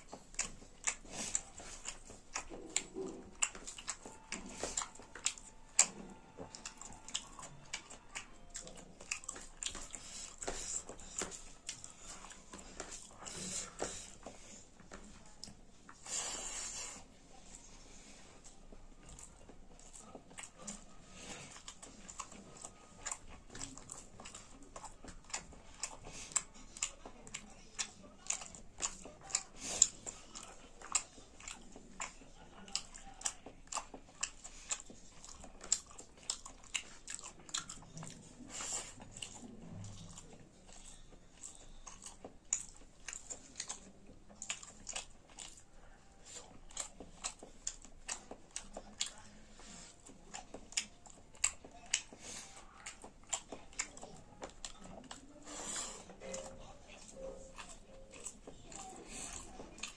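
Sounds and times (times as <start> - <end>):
person chewing and crunching food: 0.0 - 59.9.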